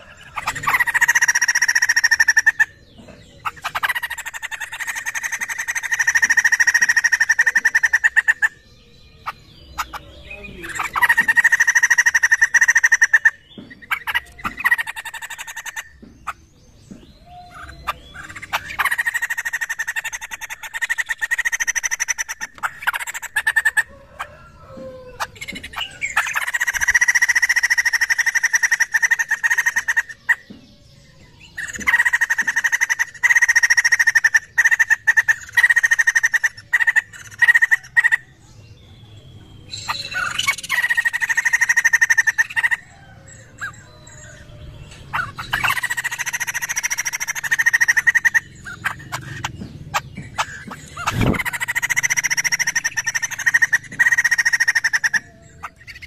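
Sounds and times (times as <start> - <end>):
bird singing rattling chatter: 0.0 - 56.0.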